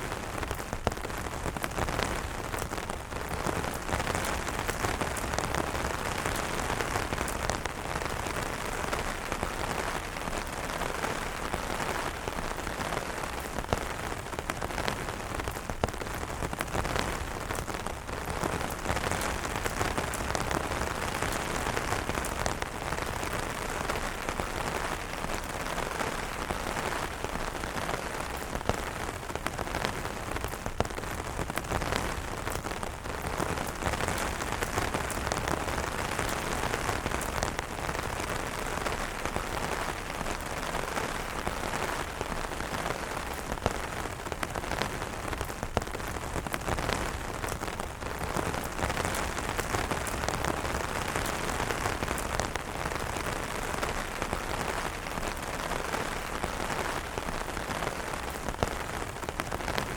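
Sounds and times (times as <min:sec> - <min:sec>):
rain hissing on umbrellas: 0:00.0 - 0:59.9.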